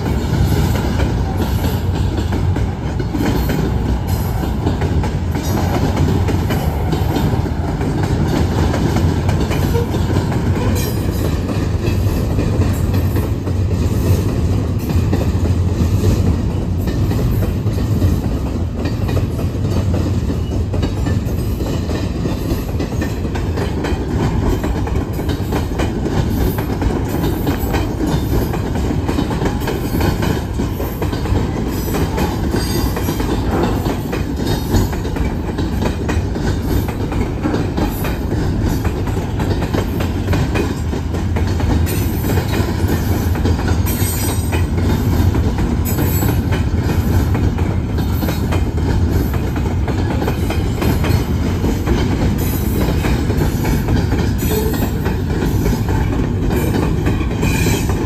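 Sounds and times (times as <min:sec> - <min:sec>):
freight train rumbling past: 0:00.0 - 0:58.0
train wheel clicks: 0:00.0 - 0:58.0.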